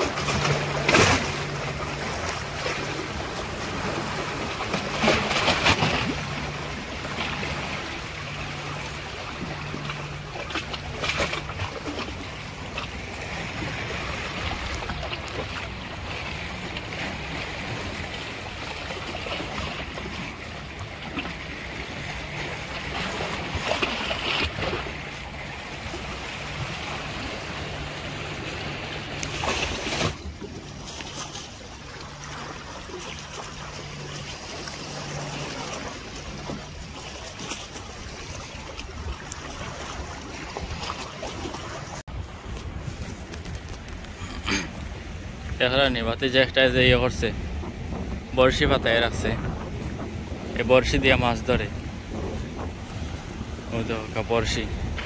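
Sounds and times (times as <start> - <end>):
sea surf: 0.0 - 55.0
wind: 0.0 - 55.0.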